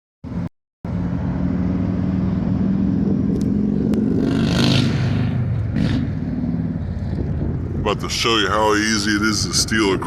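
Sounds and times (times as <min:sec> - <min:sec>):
car engine droning: 0:00.2 - 0:10.0.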